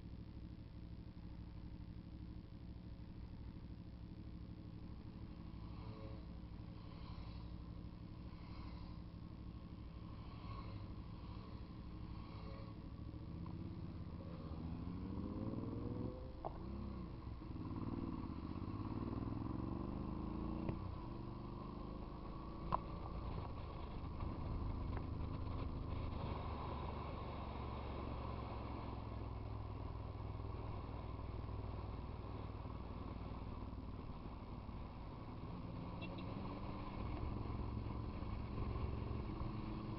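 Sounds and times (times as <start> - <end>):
motorcycle engines: 0.0 - 39.9.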